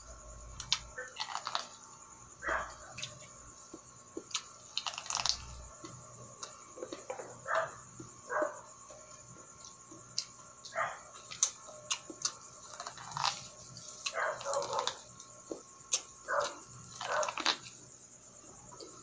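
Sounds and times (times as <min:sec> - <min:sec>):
biting and chewing corn: 0:00.6 - 0:01.8, 0:02.4 - 0:17.8.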